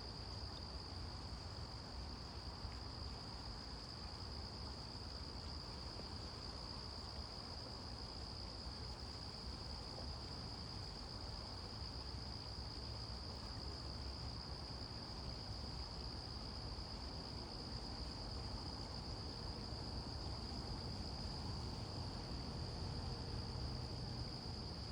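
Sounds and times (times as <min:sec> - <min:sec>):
insects droning: 0:00.0 - 0:24.9.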